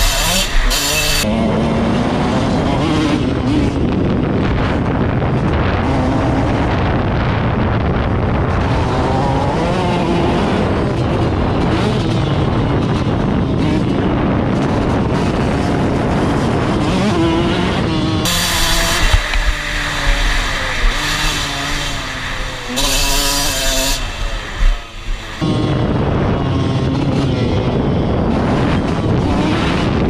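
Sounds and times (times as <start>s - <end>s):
dense rushing noise: 0.0s - 30.0s
off-road vehicle engine: 0.0s - 30.0s.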